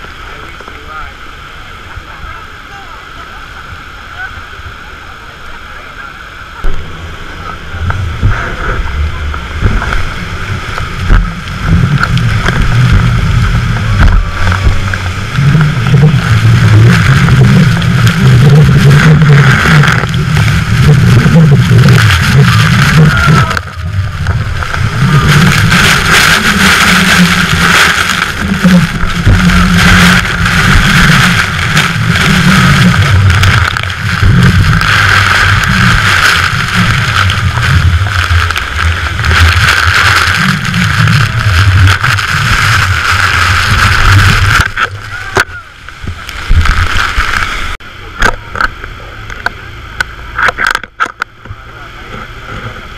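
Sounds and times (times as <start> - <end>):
rushing water and spray: 0.0 - 52.9
speedboat engine running hard: 0.0 - 52.9.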